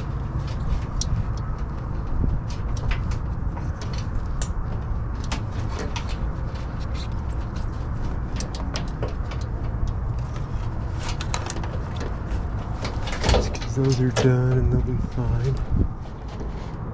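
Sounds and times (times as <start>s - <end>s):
hands clicking and tapping on wiring: 0.0s - 16.5s
steady low rumble: 0.0s - 16.9s.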